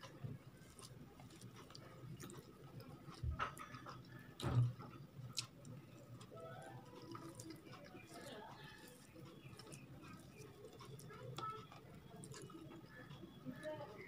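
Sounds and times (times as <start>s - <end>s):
fingers squishing soft food: 0.0s - 14.0s
wet chewing clicks: 0.0s - 14.0s.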